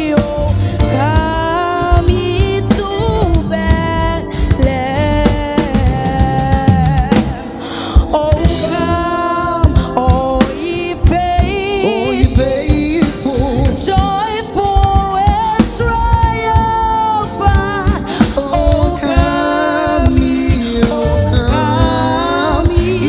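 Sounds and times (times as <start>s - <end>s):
bass: 0.0s - 23.0s
drums: 0.0s - 23.0s
keyboard: 0.0s - 23.0s
woman singing into a microphone: 0.0s - 23.0s.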